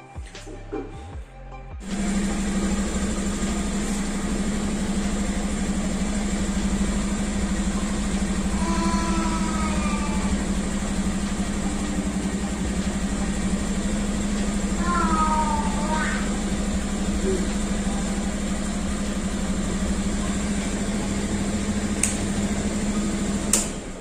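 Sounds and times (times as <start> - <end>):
motorcycle engine idling: 1.8 - 24.0.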